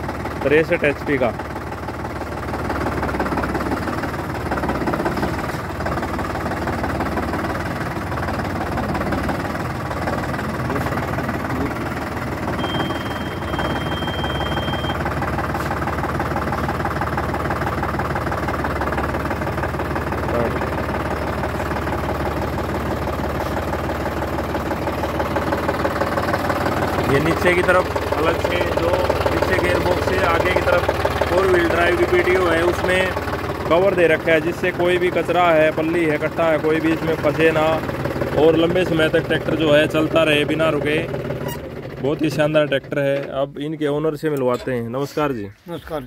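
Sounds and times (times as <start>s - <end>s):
tractor diesel engine idling: 0.0s - 46.0s.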